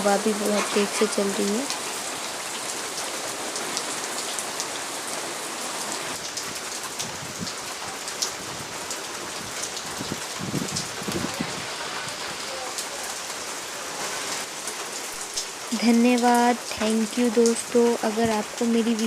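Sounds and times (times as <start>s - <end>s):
heavy rain falling: 0.0s - 19.0s
raindrops ticking on surfaces: 0.0s - 19.0s.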